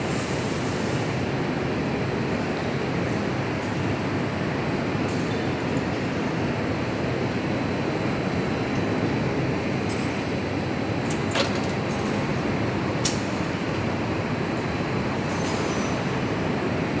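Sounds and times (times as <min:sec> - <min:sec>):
conveyor running: 0:00.0 - 0:17.0.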